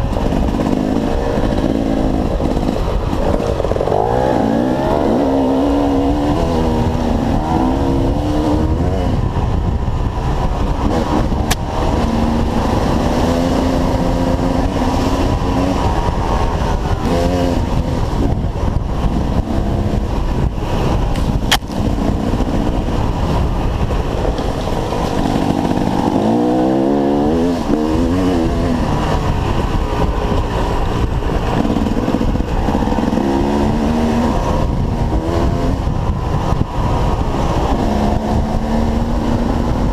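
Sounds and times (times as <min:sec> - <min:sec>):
dirt bike engines revving: 0:00.0 - 0:39.9
steady low rumble: 0:00.0 - 0:39.9.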